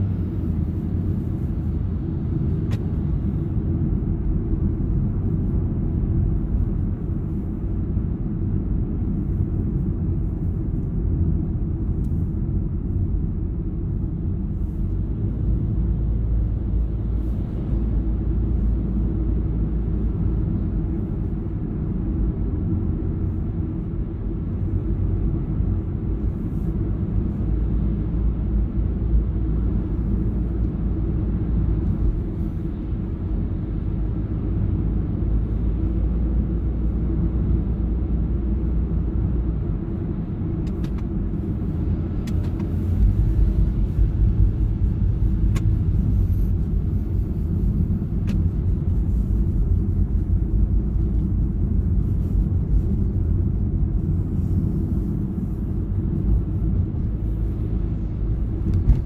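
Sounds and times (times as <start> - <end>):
car interior road noise: 0.0 - 59.0.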